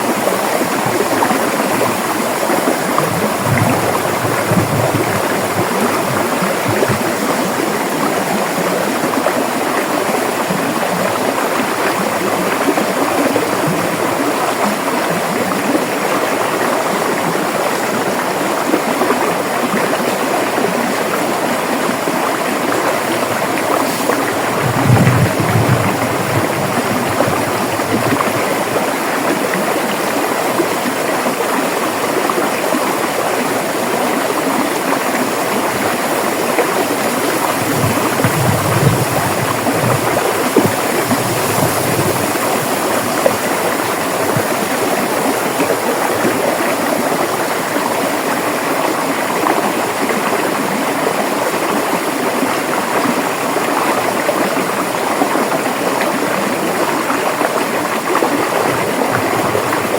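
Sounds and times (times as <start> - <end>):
deep gurgling water surges: 0.0 - 59.9
river water rushing over rocks: 0.0 - 59.9.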